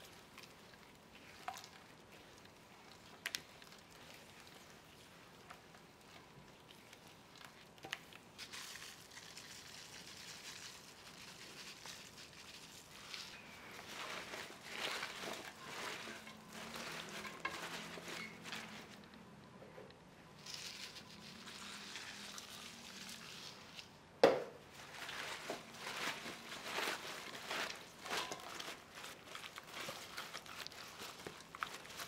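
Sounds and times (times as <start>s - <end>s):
scallions rustling in a bowl: 0.0s - 19.1s, 20.4s - 23.8s, 24.7s - 32.0s.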